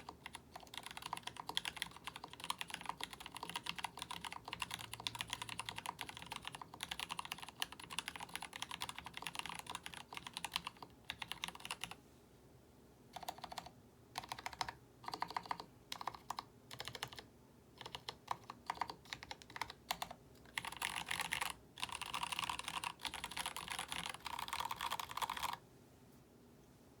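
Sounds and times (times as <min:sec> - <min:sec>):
typing on mechanical keyboard: 0:00.0 - 0:12.0, 0:13.2 - 0:25.6.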